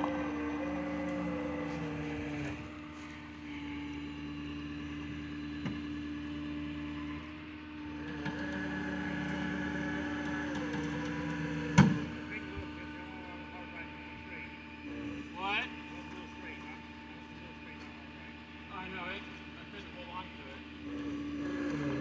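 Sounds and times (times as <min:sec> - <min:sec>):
tow truck engine and winch: 0:00.0 - 0:22.0.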